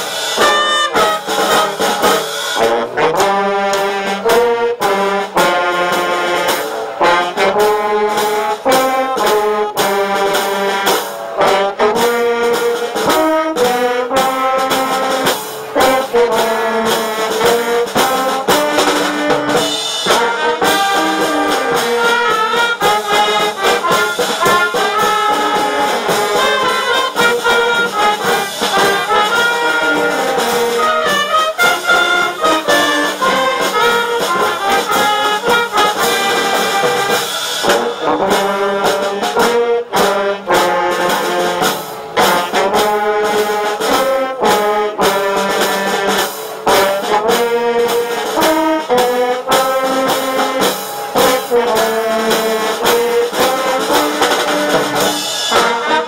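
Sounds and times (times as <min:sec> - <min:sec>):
tuba: 0:00.0 - 0:56.0
wind band playing: 0:00.0 - 0:56.0.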